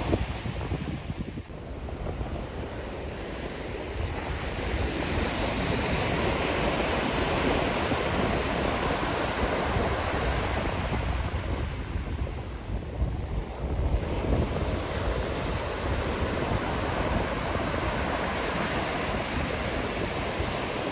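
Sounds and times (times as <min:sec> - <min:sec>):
sea waves breaking on shore: 0:00.0 - 0:20.9
wind buffeting microphone: 0:00.0 - 0:20.9.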